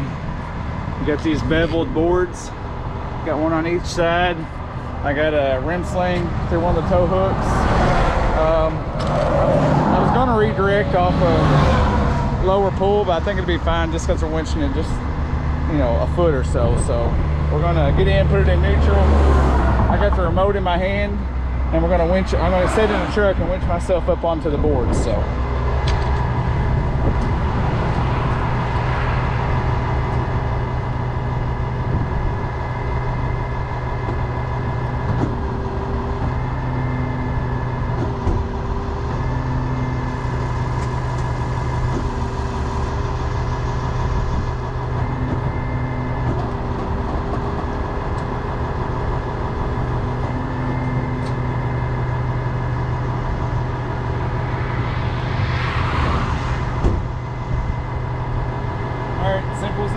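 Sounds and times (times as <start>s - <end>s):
heavy truck engine running: 0.0s - 59.9s.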